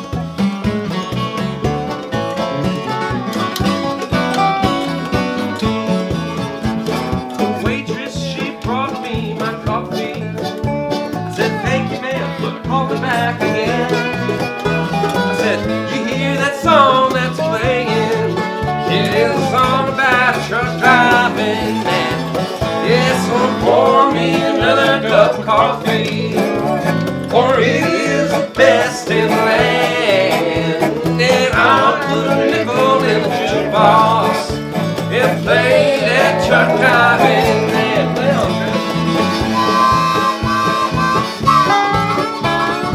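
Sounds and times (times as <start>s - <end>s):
acoustic guitar strumming: 0.0s - 42.9s
electric bass: 0.0s - 42.9s
harmonica with bending notes: 0.0s - 42.9s
resonator guitar sliding notes: 0.0s - 42.9s.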